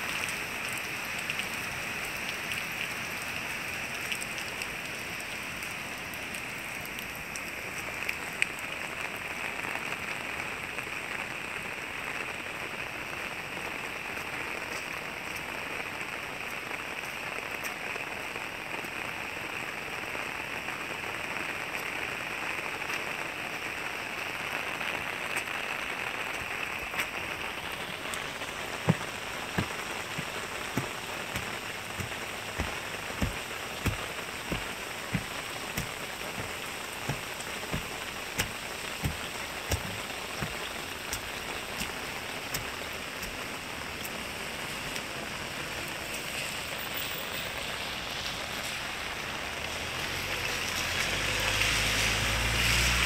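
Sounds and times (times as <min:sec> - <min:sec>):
footsteps on wet street: 0:00.0 - 0:53.0
rain on wet pavement: 0:00.0 - 0:53.0.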